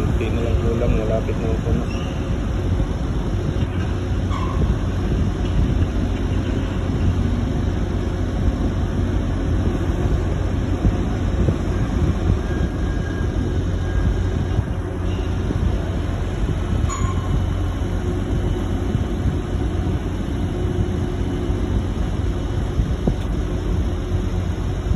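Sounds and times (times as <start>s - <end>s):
crane machinery rumbling: 0.0s - 24.9s.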